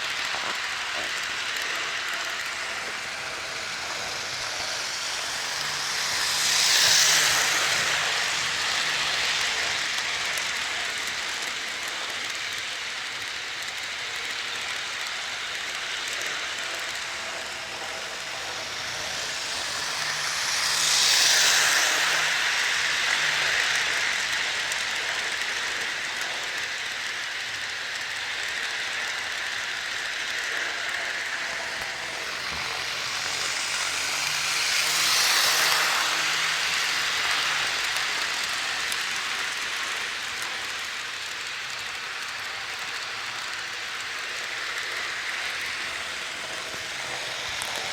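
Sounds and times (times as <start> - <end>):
model train wheels rumbling: 0.0 - 47.9.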